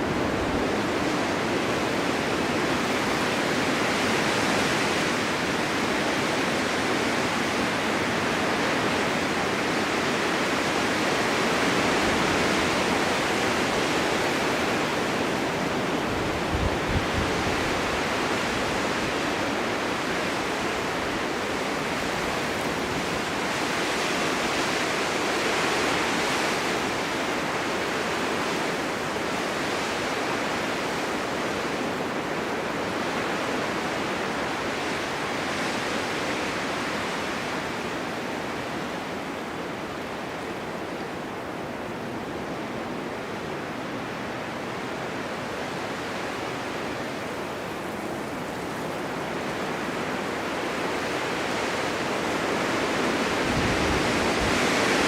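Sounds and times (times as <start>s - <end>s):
blizzard wind gusting: 0.0s - 55.0s.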